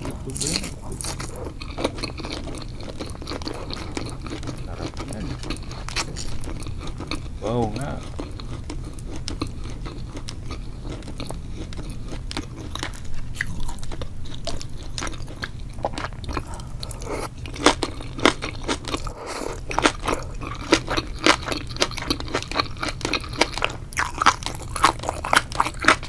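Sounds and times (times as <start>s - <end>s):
steady low hum: 0.0s - 26.0s
wet chewing and mouth smacks: 0.0s - 26.0s.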